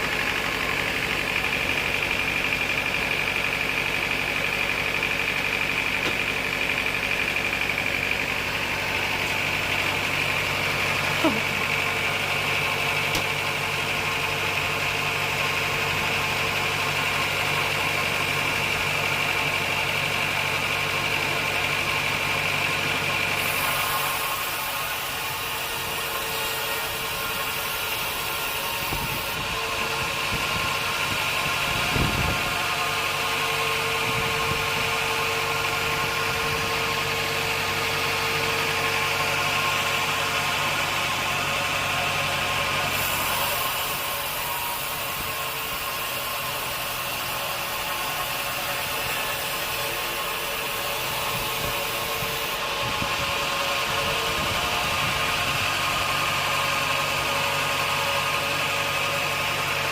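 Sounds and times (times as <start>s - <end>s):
band sawmill humming: 0.0s - 59.9s.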